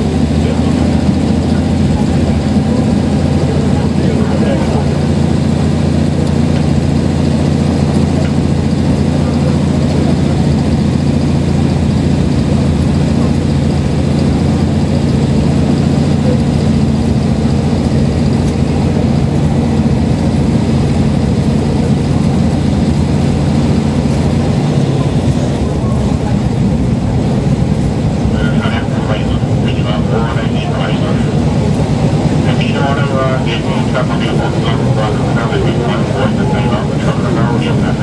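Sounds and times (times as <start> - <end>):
low engine drone: 0.0 - 38.0
train wheels rumbling on track: 0.0 - 38.0.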